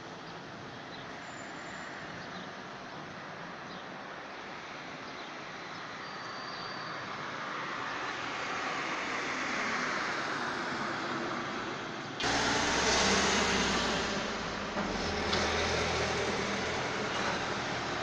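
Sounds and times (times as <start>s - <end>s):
vehicles passing on road: 0.0s - 18.0s.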